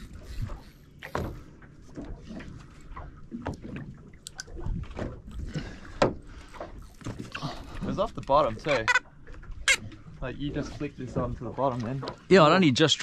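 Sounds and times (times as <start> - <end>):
waves slapping boat hull: 0.0 - 13.0.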